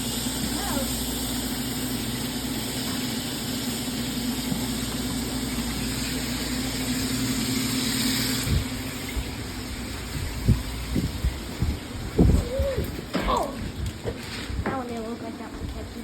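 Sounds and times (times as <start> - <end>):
machine hum: 0.0 - 14.1.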